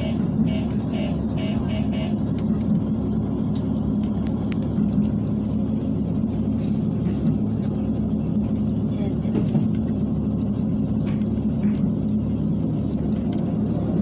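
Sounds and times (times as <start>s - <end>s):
railcar engine and wheels rumbling: 0.0s - 14.0s.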